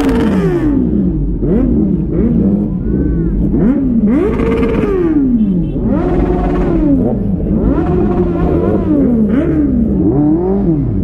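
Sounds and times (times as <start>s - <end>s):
motorbike engines revving: 0.0s - 11.0s.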